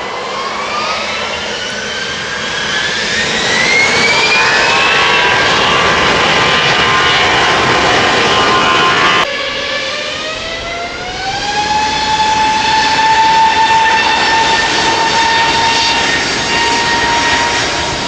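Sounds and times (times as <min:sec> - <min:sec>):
jet engines spooling up: 0:00.0 - 0:18.0.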